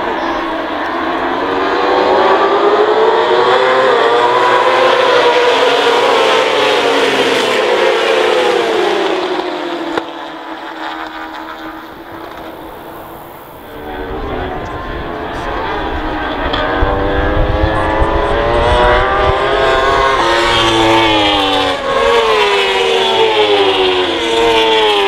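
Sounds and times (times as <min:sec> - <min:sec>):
motorcycles racing past: 0:00.0 - 0:25.0.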